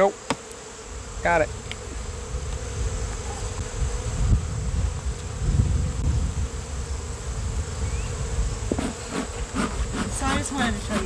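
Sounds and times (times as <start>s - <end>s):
honeybees humming: 0.0s - 11.0s.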